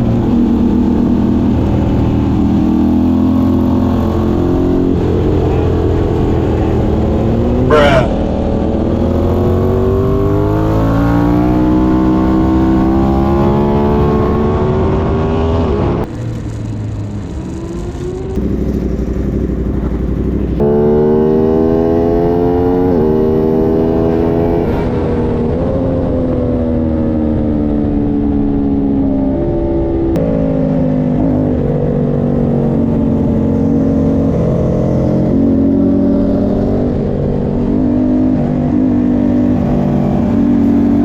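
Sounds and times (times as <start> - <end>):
motorcycle engine at speed: 0.0 - 41.0.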